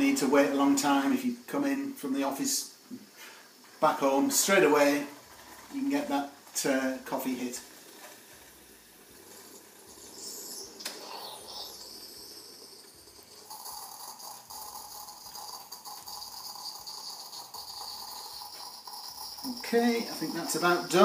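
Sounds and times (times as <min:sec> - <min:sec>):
coffee machine hissing and sputtering: 0:00.0 - 0:21.0.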